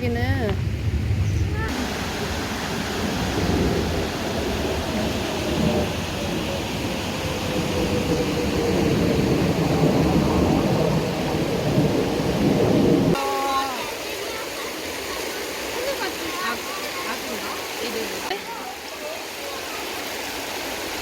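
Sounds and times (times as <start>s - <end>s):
mountain stream rushing: 1.6s - 21.0s.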